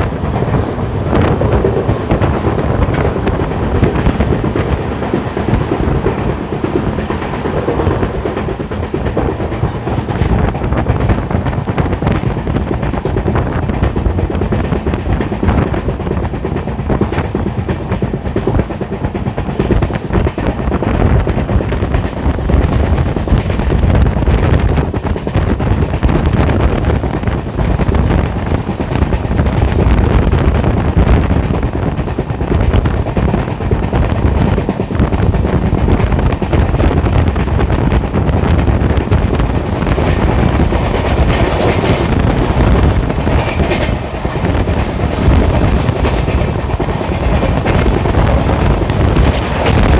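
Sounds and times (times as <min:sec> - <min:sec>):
passenger train rumbling: 0:00.0 - 0:49.9
wheels rattling on rails: 0:00.0 - 0:49.9.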